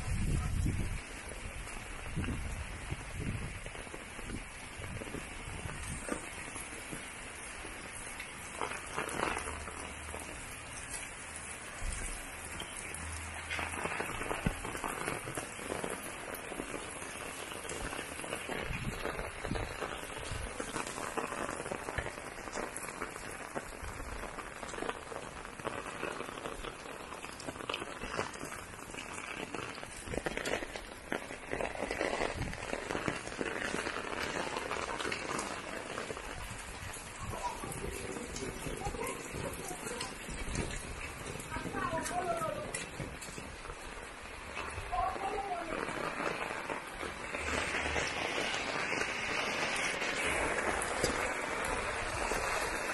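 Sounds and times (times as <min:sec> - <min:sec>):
heavy rain on hard surfaces: 0:00.0 - 0:52.9.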